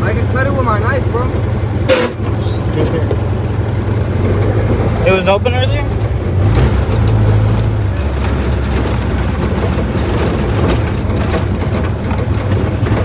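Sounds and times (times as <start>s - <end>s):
car engine running: 0.0s - 13.0s
road noise: 0.0s - 13.0s
sharp knocks and rattles: 0.0s - 13.0s.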